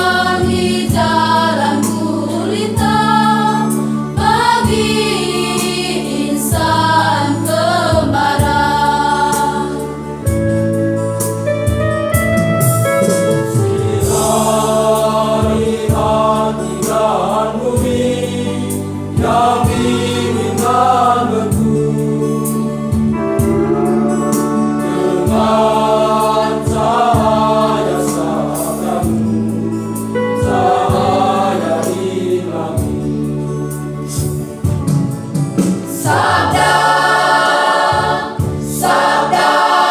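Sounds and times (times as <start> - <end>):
choir singing a hymn: 0.0 - 10.8, 13.0 - 39.9.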